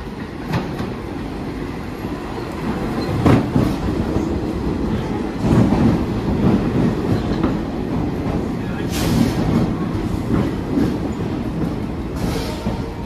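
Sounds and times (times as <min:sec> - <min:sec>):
subway train rolling past: 0:00.0 - 0:13.0.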